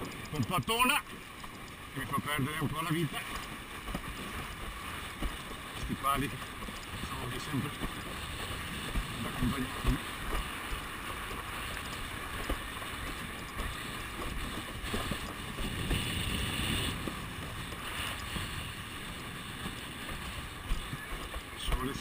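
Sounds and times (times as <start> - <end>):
water rushing and slapping: 0.0 - 22.0
wind buffeting microphone: 0.0 - 22.0.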